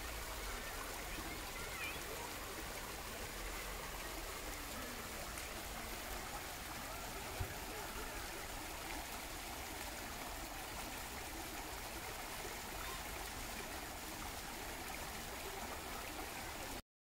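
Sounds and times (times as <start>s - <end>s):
stream running over rocks: 0.0s - 16.8s.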